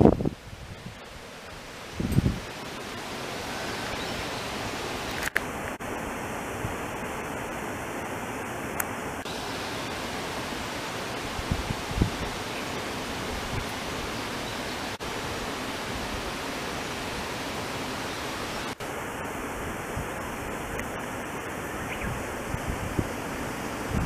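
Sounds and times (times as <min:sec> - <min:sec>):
wet outdoor background hiss: 0:00.0 - 0:24.0.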